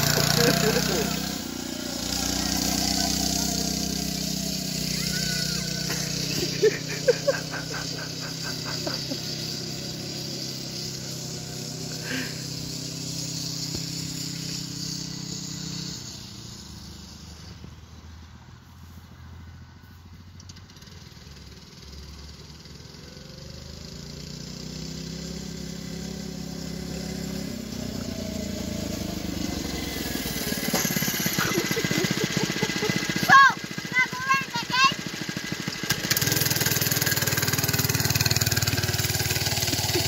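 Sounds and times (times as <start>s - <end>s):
go-kart engine running: 0.0s - 18.5s, 19.4s - 40.0s.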